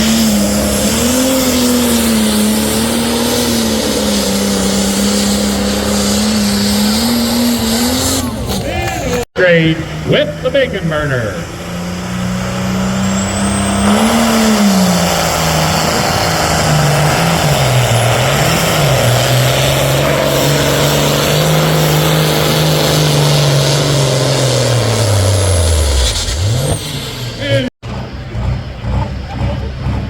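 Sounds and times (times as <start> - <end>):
tractor diesel engine at full throttle: 0.0 - 30.0.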